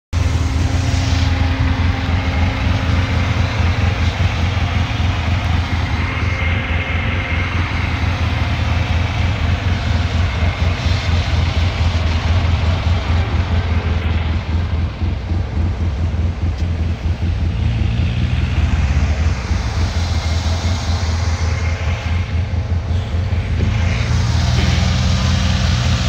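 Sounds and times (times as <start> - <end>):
vehicle engine idling: 0.1 - 26.0.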